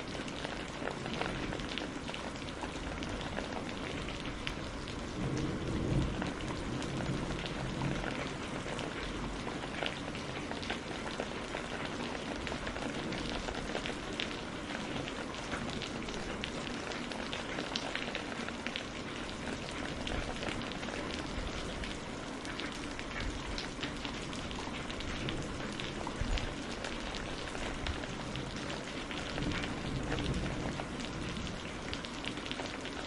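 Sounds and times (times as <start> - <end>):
rain on a greenhouse roof: 0.0 - 33.0.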